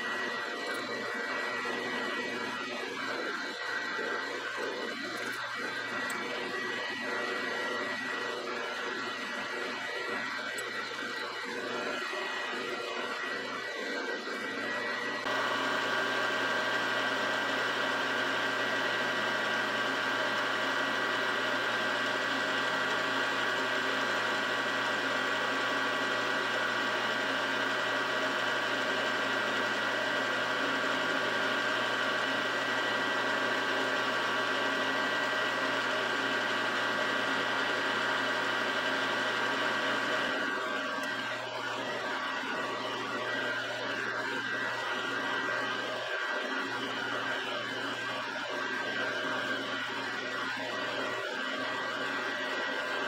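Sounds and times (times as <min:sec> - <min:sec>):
milling machine whining: 0:00.0 - 0:53.0.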